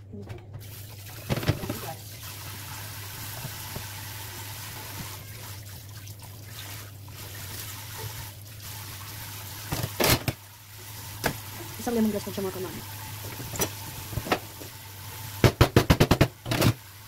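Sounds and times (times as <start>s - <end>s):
tap water running into sink: 0.6s - 17.0s.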